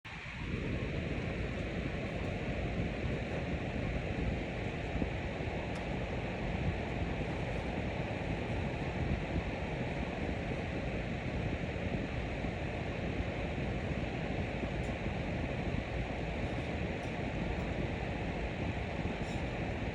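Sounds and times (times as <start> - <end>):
electric fan running: 0.0 - 19.9.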